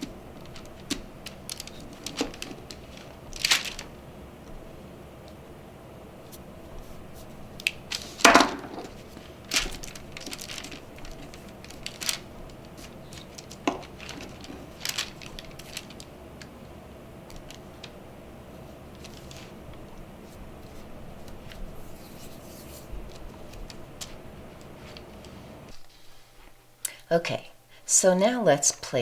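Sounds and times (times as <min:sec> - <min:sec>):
paper rustling: 0:00.0 - 0:05.4, 0:06.2 - 0:26.3.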